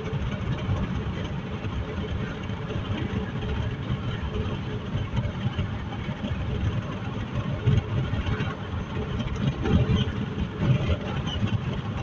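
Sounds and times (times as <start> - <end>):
car engine rumble: 0.0 - 12.0
wind noise: 0.0 - 12.0.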